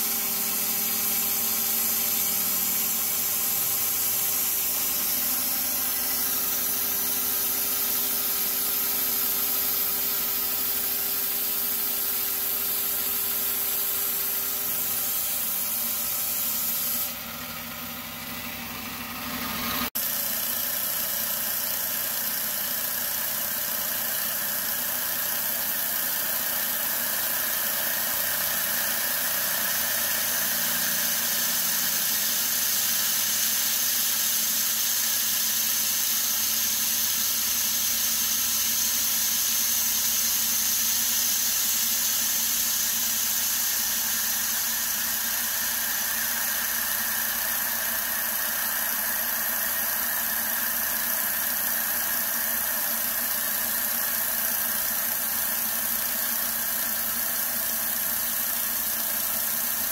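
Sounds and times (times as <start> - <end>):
milling machine cutting whine: 0.0 - 18.4, 25.4 - 58.2
coolant spray hissing: 0.0 - 59.9.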